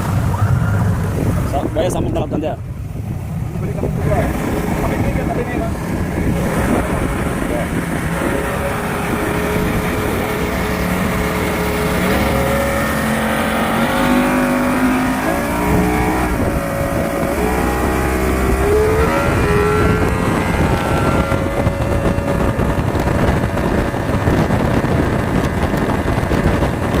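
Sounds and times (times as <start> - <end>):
power boat engine running: 0.0 - 27.0
rushing wind and water: 0.0 - 27.0.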